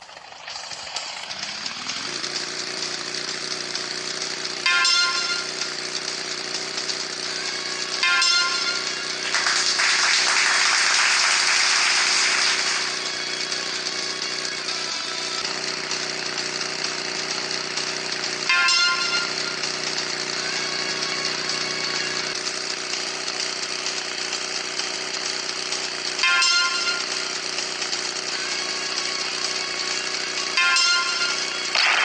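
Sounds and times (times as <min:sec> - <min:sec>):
motorbike engine running: 0:00.0 - 0:32.0.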